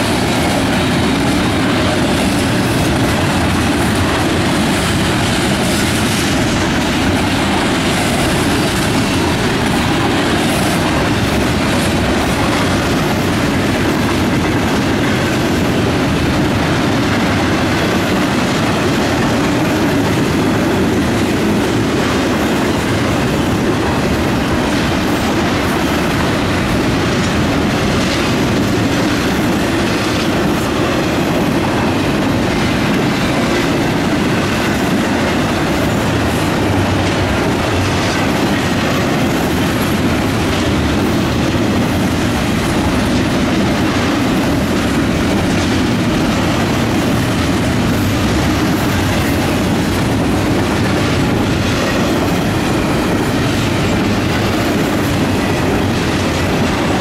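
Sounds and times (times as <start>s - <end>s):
freight train wheels clacking: 0.0s - 57.0s.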